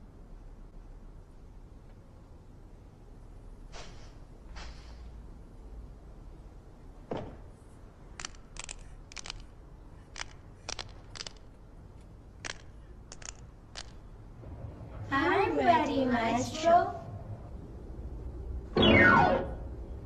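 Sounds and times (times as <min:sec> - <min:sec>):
faint background hum: 0:00.0 - 0:20.0.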